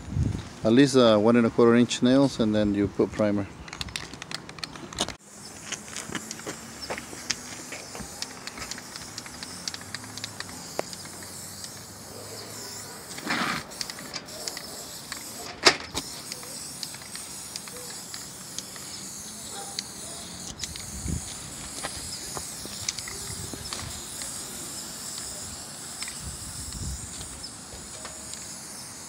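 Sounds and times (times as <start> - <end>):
aerosol spray can hissing: 5.2 - 29.0.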